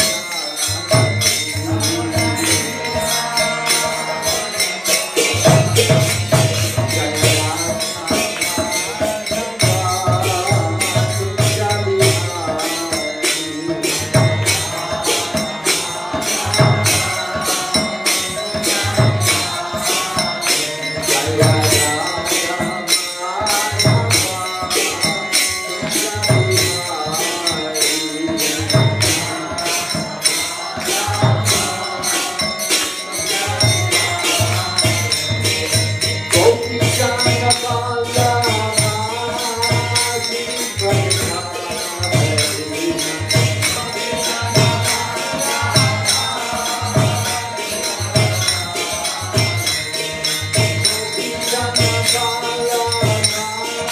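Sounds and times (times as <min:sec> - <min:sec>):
jingling metal hand percussion: 0:00.0 - 0:53.9
man singing a chant: 0:00.0 - 0:53.9.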